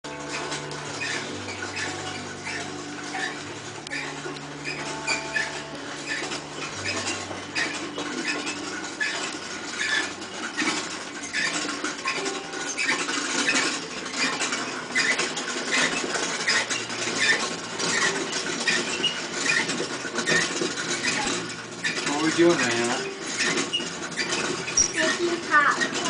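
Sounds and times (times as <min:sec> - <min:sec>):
popcorn popper crank squeaking: 0:00.1 - 0:26.0.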